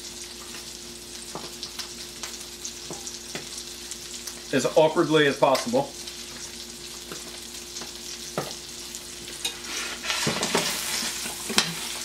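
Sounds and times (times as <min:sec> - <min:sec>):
fish sizzling in butter: 0:00.0 - 0:12.0.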